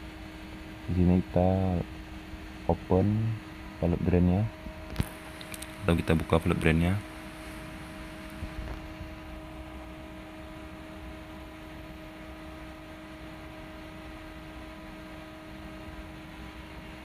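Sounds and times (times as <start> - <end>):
steady hum with faint hiss: 0.0 - 17.0.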